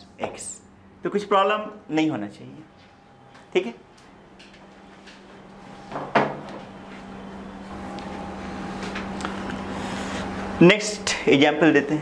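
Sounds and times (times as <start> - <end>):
room noise: 0.0 - 12.0
steady low hum: 0.0 - 12.0.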